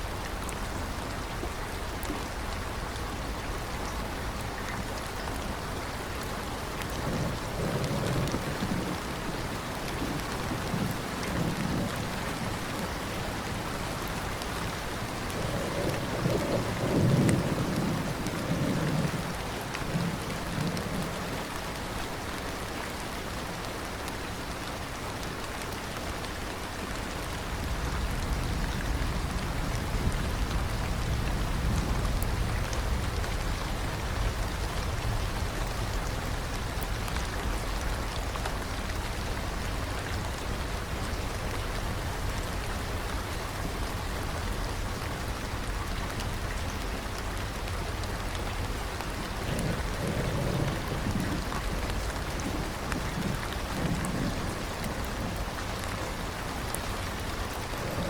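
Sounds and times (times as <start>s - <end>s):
steady rain falling: 0.0s - 58.0s
thunder rumble: 2.5s - 21.9s, 27.4s - 58.0s.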